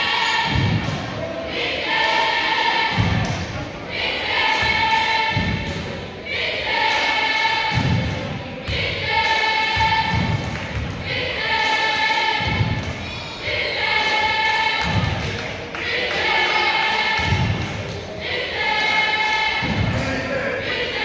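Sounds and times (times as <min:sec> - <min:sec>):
group chanting a cheer: 0:00.0 - 0:21.0.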